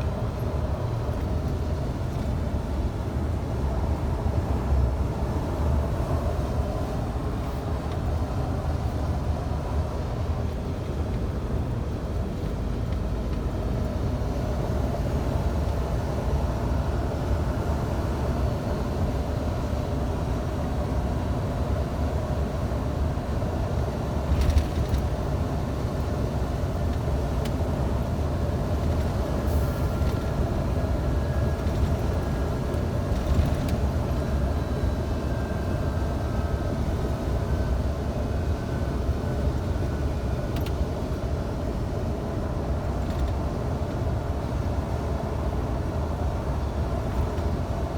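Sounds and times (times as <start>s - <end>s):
truck engine and road noise: 0.0s - 47.9s.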